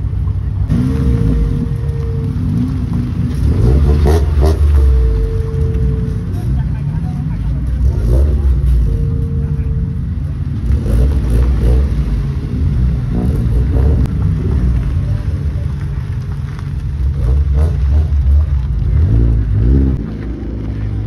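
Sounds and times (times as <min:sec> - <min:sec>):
car engine revving: 0:00.0 - 0:21.0
car engines rumbling past: 0:00.0 - 0:21.0.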